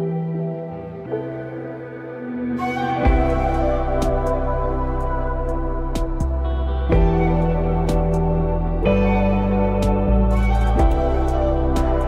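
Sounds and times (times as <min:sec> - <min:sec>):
soft ambient music: 0:00.0 - 0:12.0.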